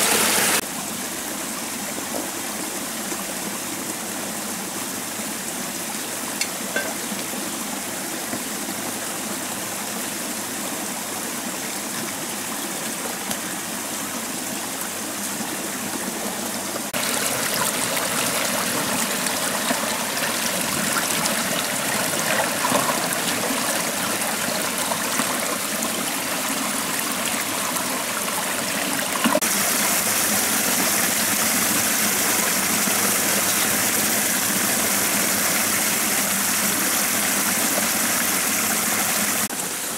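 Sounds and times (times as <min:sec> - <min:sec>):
stream splashing over stones: 0:04.6 - 0:39.9.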